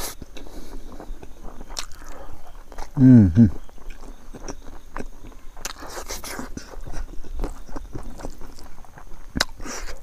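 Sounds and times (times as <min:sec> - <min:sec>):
fingers squishing rice on a plate: 0:00.0 - 0:10.0
person chewing: 0:00.0 - 0:10.0.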